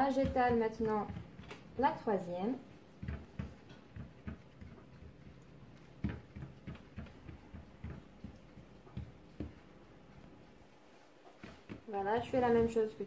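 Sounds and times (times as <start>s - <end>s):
hands patting dough: 0.0s - 13.0s.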